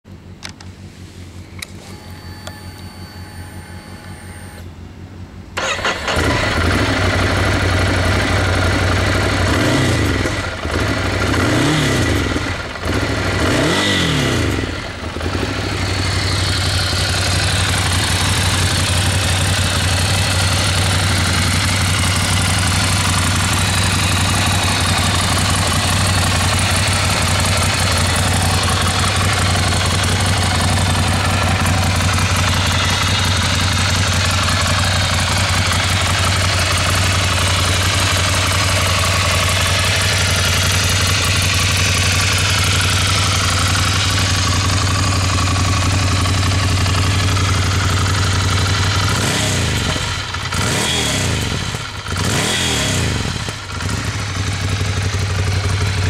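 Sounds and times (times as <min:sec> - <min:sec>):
motorcycle engine revving and idling: 0:05.6 - 0:56.0.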